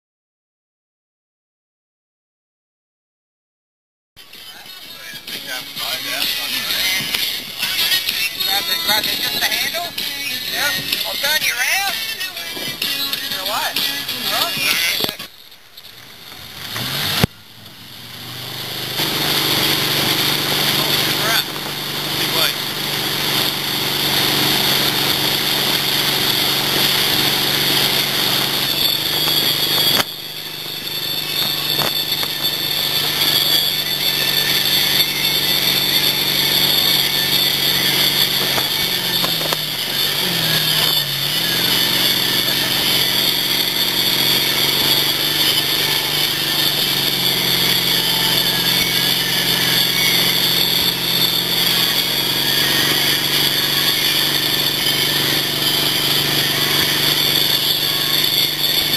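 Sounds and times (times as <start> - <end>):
boat engine running: 4.5 - 58.9.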